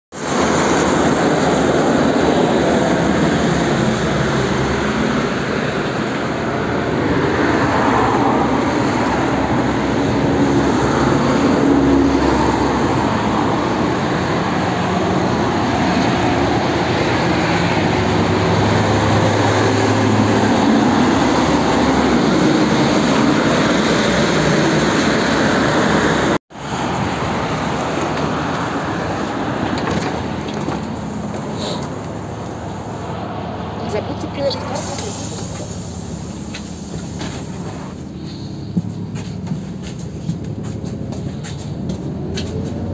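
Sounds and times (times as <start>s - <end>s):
engines of passing vehicles: 0.1s - 42.9s
tyres hissing on wet road: 0.2s - 29.7s, 30.8s - 38.7s.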